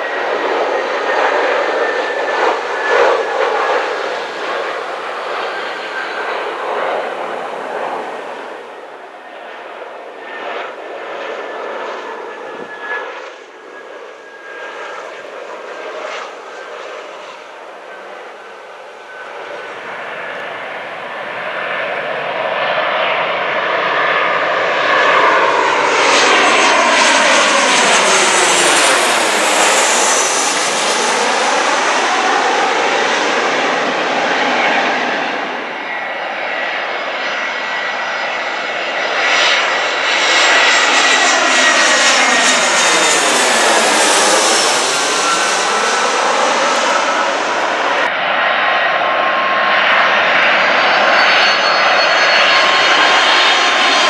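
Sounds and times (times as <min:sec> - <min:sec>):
jet airliners roaring overhead: 0:00.0 - 0:54.0
phasing whoosh of aircraft: 0:00.0 - 0:54.0.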